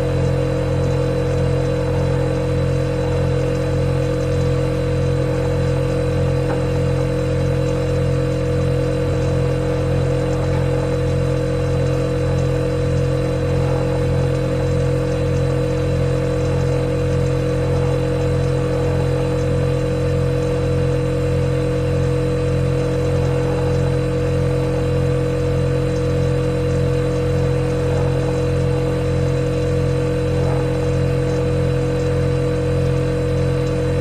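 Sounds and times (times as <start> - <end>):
refrigerator compressor humming: 0.0 - 34.0.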